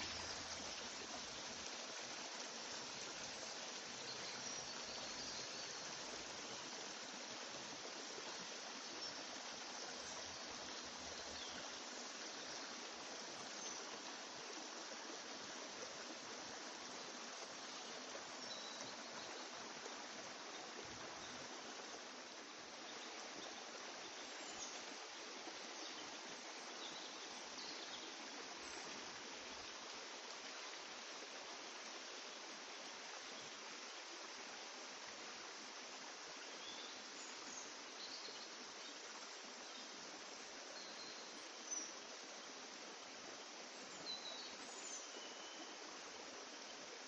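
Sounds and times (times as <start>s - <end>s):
background hiss: 0.0s - 47.0s.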